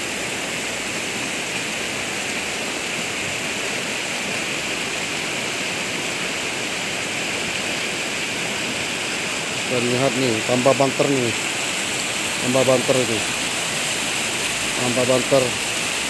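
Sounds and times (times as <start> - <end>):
mudflow rushing: 0.0 - 16.0.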